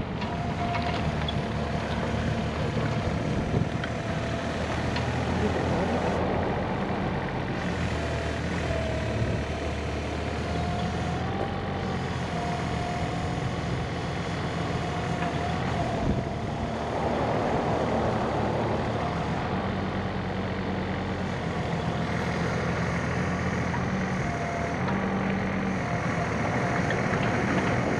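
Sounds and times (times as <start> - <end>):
hydraulic whine: 0.0 - 27.9
small diesel engine running: 0.0 - 27.9.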